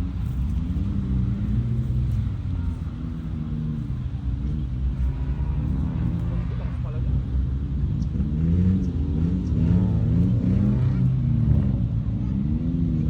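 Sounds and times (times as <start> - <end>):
small truck engine revving: 0.0 - 13.0.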